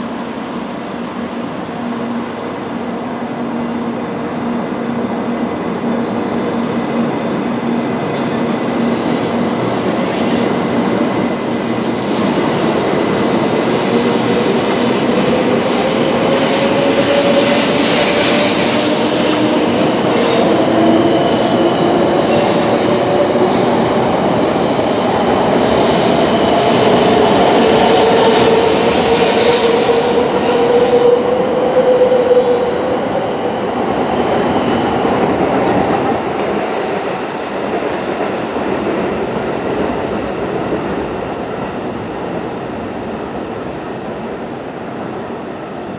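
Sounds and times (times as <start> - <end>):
passing train cars rumbling: 4.8 - 45.9.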